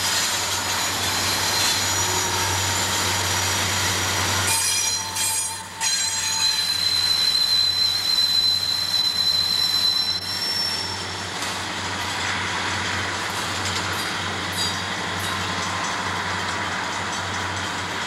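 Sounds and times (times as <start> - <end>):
locomotive engine drone: 0.0 - 5.8, 6.7 - 18.0
train wheel squeal: 0.0 - 12.8, 13.6 - 18.0.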